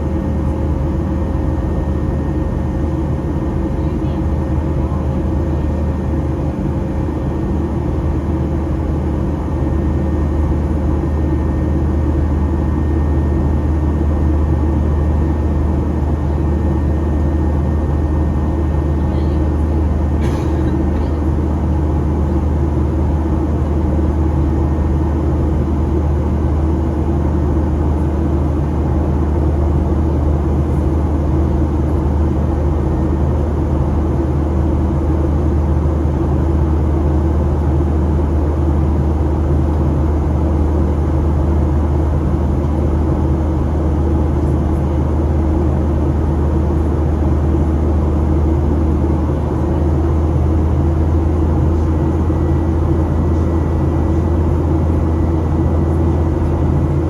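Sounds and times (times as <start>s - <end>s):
aircraft cabin drone: 0.0s - 57.0s.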